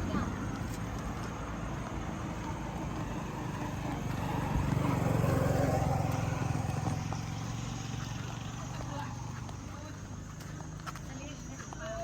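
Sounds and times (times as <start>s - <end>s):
vehicle engine passing by: 0.0s - 9.8s.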